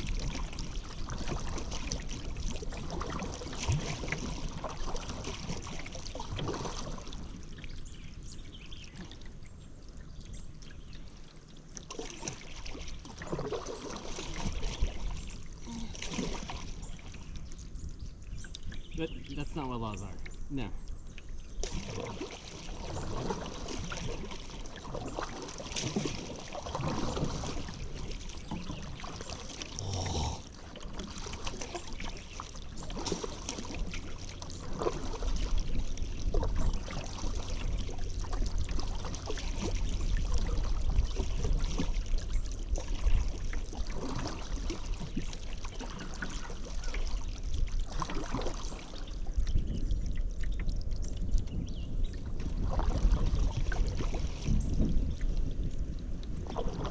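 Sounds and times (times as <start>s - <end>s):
paddle splashing in water: 0.0s - 9.4s, 10.6s - 20.4s, 21.1s - 51.3s, 52.1s - 56.9s
water trickling off paddle: 0.0s - 56.9s.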